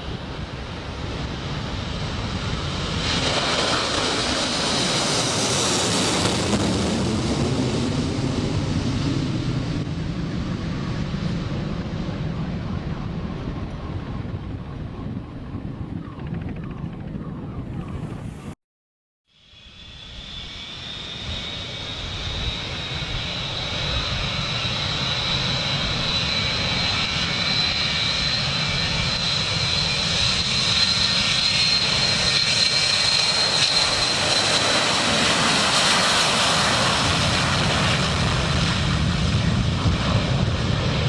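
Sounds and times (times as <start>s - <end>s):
high jet engine whine: 0.0s - 18.6s, 19.3s - 41.0s
jet engines roaring at takeoff: 0.0s - 18.6s, 19.3s - 41.0s.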